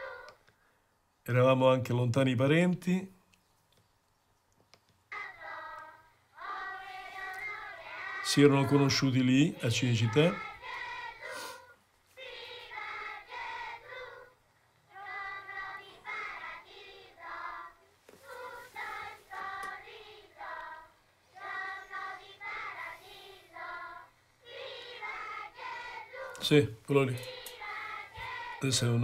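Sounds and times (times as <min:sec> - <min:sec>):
children singing: 0:00.0 - 0:00.4, 0:05.1 - 0:29.0.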